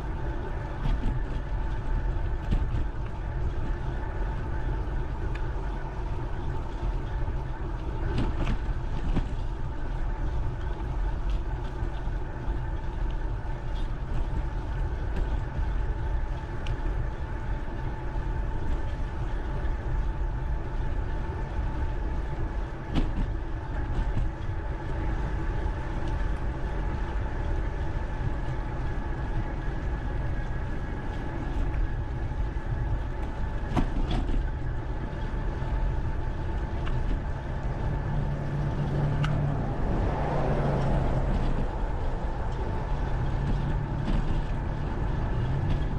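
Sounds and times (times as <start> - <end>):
bike riding noise: 0.0 - 45.9
steady whine: 0.0 - 45.9
wind rumble: 0.0 - 45.9.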